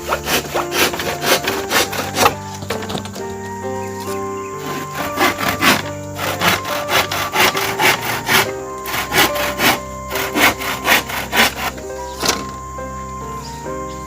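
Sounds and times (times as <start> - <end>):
hand saw cutting wood: 0.0 - 3.4, 4.0 - 12.5
background music: 0.0 - 14.0.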